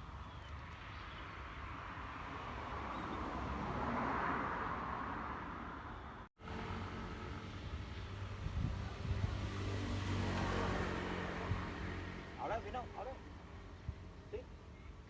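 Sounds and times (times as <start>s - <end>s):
vehicle passing by: 1.6s - 13.7s.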